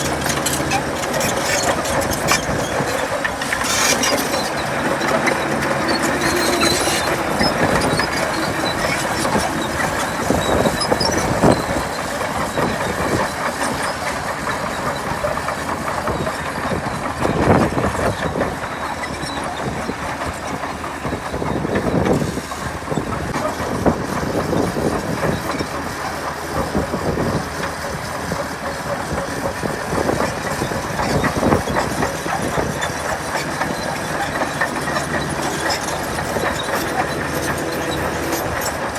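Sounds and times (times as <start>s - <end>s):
bulldozer diesel engine: 0.0s - 38.9s
steel tracks clattering: 0.0s - 38.9s.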